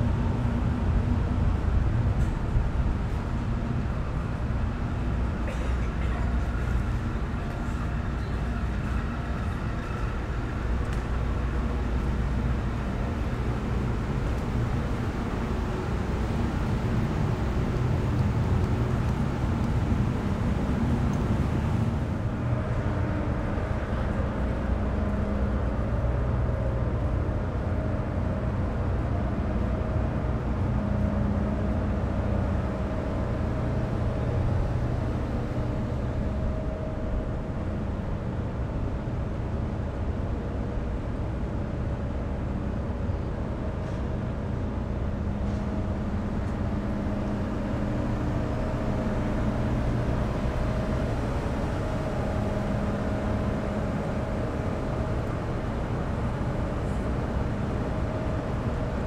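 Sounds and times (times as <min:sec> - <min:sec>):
ferry engines droning: 0:00.0 - 0:59.0.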